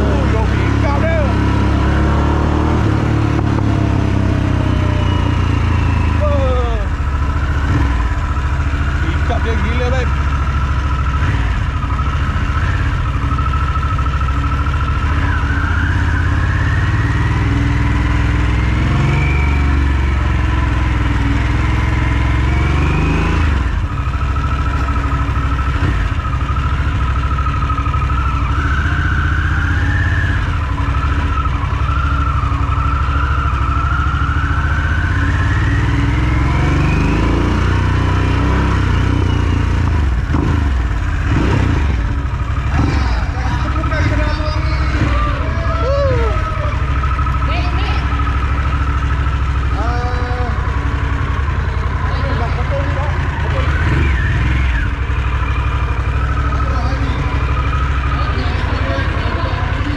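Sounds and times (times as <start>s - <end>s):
motorcycle engine rumble: 0.0s - 59.9s.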